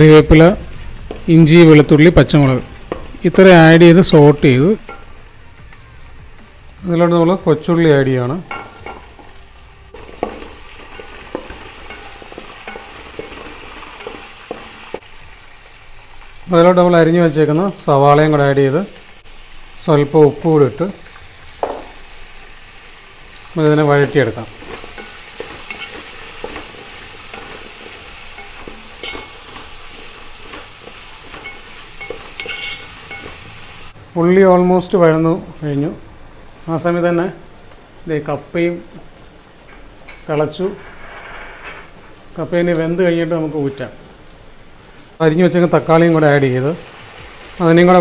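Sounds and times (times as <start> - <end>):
shallots sizzling in oil: 0.0 - 40.8, 42.0 - 48.0.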